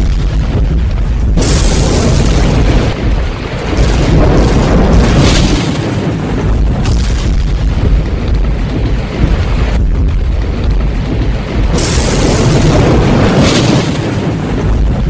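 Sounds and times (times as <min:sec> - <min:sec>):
trailer-style music with booming bass: 0:00.0 - 0:15.0.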